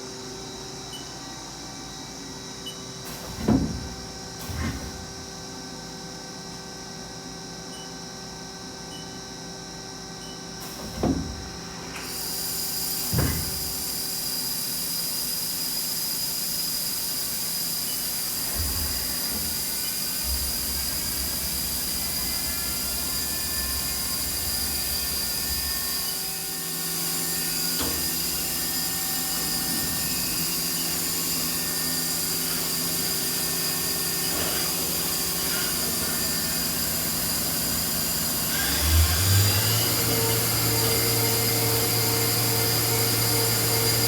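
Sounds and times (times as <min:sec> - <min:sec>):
lathe whine and hum: 0:00.0 - 0:44.0.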